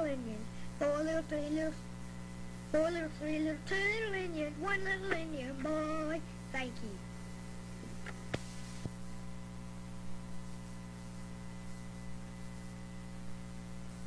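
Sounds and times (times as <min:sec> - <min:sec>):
electrical mains hum: 0:00.0 - 0:14.0
static hiss: 0:00.0 - 0:14.0.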